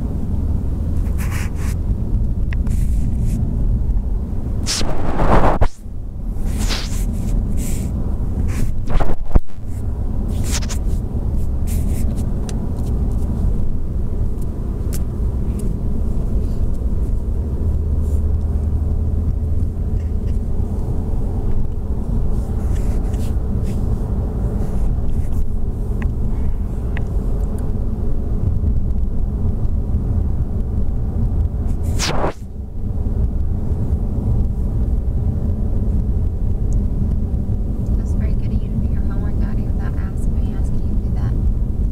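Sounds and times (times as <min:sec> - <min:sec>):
car road rumble inside cabin: 0:00.0 - 0:41.9.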